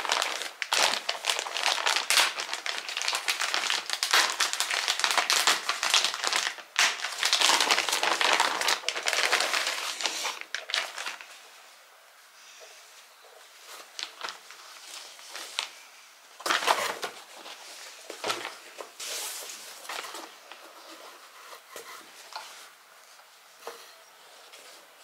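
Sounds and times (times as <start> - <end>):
rustling and crinkling: 0.0 - 11.7, 12.7 - 25.0.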